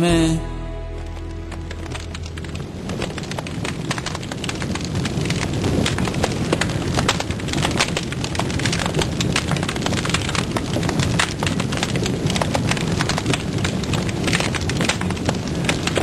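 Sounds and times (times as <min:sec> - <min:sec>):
fire crackling: 0:00.0 - 0:16.0
low rush of flames: 0:00.9 - 0:16.0.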